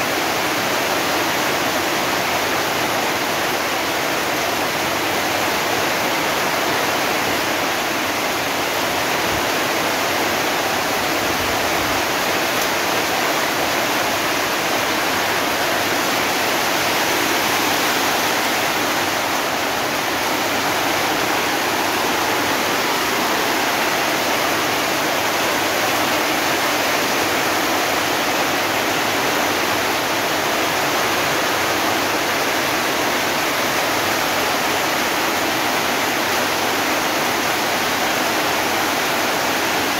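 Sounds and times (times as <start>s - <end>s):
heavy rain on metal roofs: 0.0s - 39.9s
water streaming off roof: 0.0s - 39.9s.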